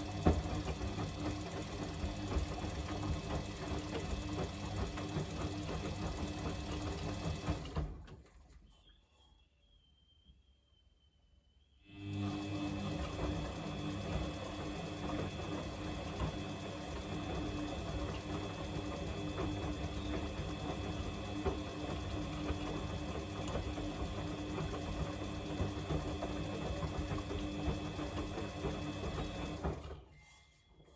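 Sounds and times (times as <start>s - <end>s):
washing machine motor hum: 0.0s - 8.1s, 11.9s - 30.1s.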